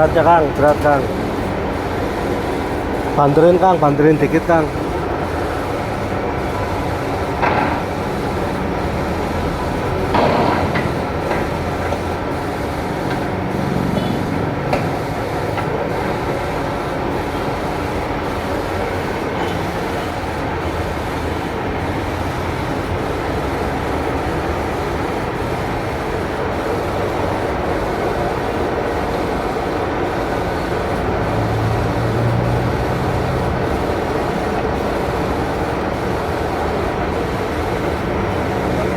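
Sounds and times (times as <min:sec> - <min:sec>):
mechanical running noise: 0:00.0 - 0:38.9.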